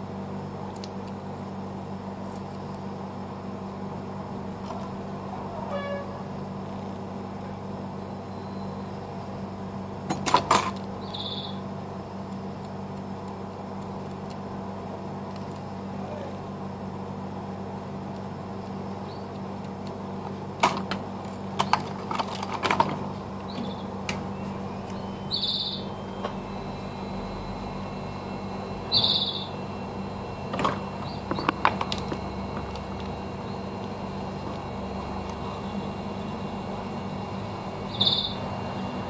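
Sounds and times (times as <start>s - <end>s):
steady electrical hum: 0.0s - 39.0s.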